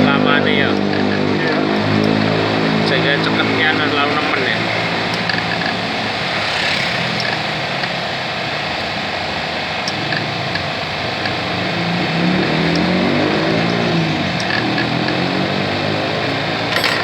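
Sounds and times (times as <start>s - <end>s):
vehicle engine running: 0.0s - 17.0s
workshop noise: 0.0s - 17.0s.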